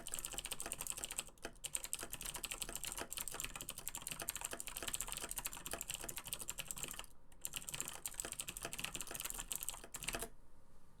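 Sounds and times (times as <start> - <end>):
mechanical keyboard typing: 0.0 - 10.3.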